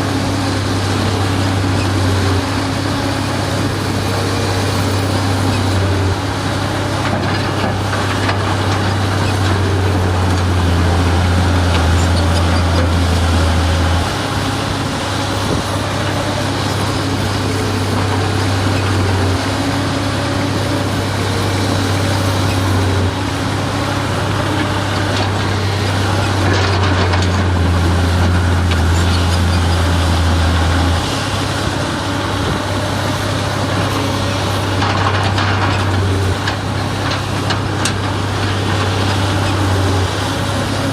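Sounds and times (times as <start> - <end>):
heavy machinery diesel engine: 0.0 - 40.9.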